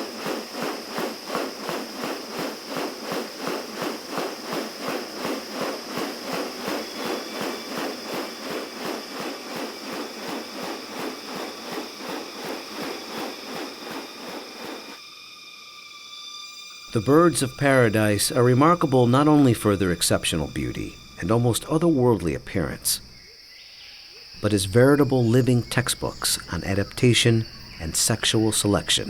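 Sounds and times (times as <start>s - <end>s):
insects pulsing buzz: 0.0s - 29.0s
steady high insect buzz: 0.0s - 29.0s.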